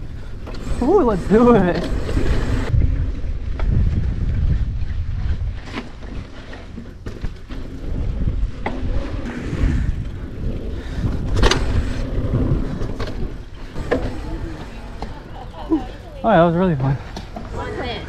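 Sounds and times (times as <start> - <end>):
bike rattling: 0.0 - 18.0
tyres rolling on loose dirt: 0.0 - 18.0
wind buffeting microphone: 0.0 - 18.0.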